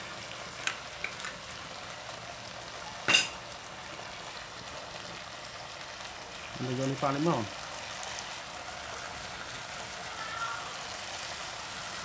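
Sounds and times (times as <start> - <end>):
food sizzling on grill pan: 0.0 - 12.0.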